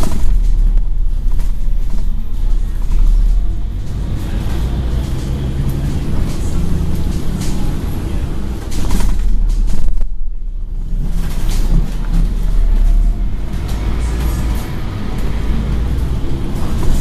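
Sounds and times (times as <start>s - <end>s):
bus body rattling: 0.0s - 17.0s
bus diesel engine running: 0.0s - 17.0s.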